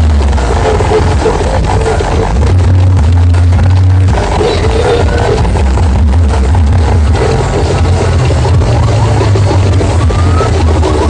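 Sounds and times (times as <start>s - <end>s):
loud music with booming bass: 0.0s - 11.0s.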